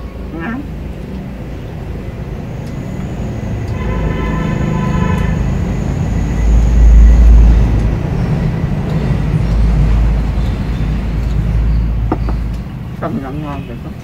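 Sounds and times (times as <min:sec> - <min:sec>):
wind buffeting microphone: 0:00.7 - 0:14.0.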